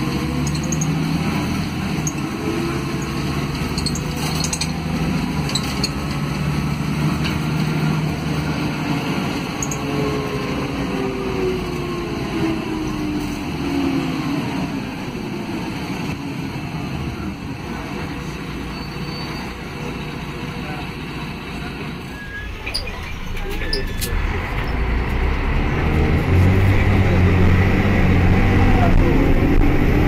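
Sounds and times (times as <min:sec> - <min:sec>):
bus diesel engine running: 0:00.0 - 0:30.0.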